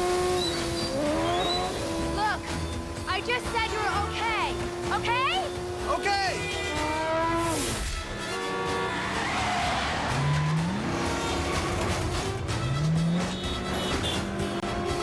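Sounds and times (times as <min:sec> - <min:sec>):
vehicle engine revving: 0:00.0 - 0:15.0
music: 0:00.1 - 0:15.0.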